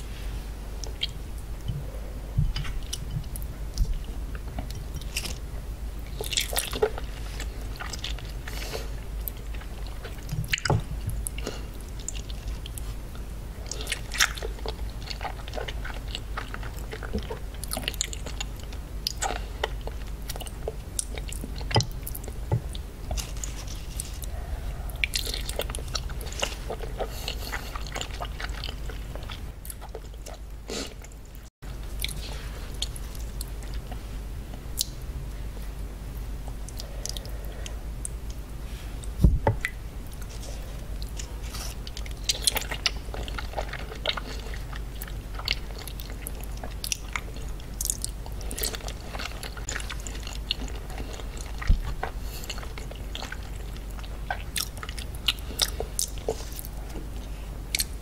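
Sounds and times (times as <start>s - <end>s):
wet chewing and smacking: 2.4s - 34.1s, 39.0s - 58.0s.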